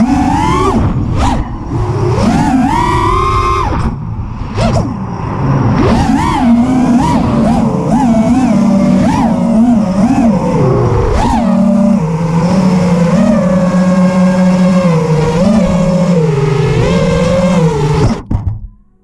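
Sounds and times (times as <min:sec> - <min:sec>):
quadcopter motors whining: 0:00.0 - 0:18.2.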